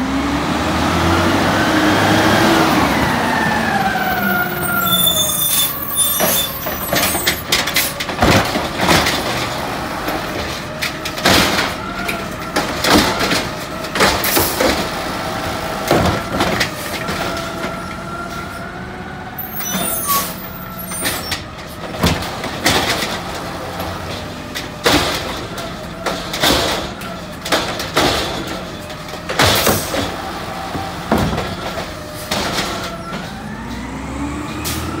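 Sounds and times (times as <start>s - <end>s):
garbage truck engine running: 0.1s - 35.0s
truck clanks and bangs: 0.2s - 18.8s, 19.4s - 35.0s.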